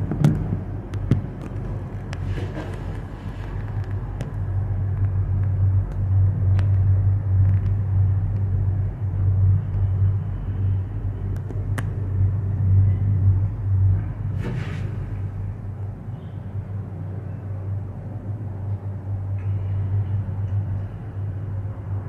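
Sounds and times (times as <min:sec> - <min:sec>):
gondola cabin rumble: 0:00.0 - 0:22.0.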